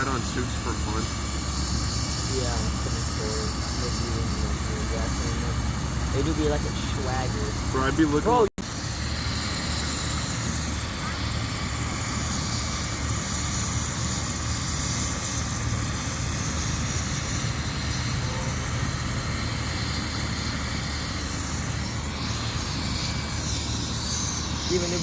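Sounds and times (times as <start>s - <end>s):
helicopter engine and rotors droning: 0.0s - 25.0s.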